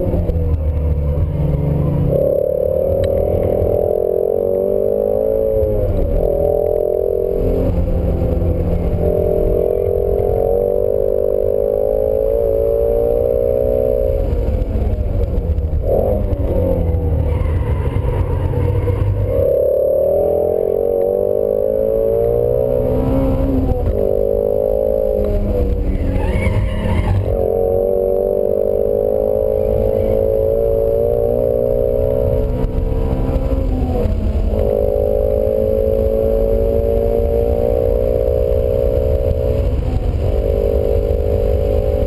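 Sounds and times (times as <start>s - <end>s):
car engine pulling hard: 0.0s - 42.0s.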